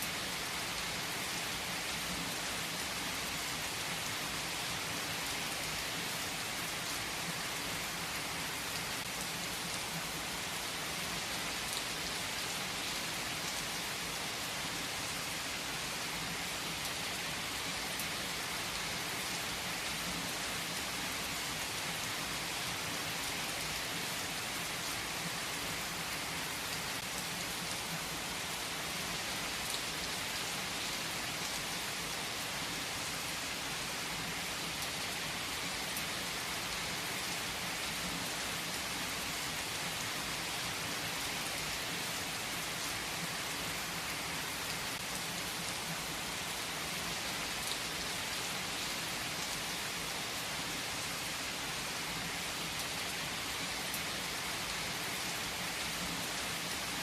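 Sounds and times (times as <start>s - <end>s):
heavy rain on a surface: 0.0s - 57.0s.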